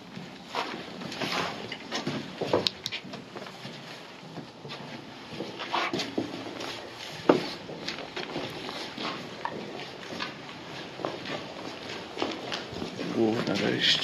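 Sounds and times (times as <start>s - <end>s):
footsteps on concrete: 0.0s - 14.0s.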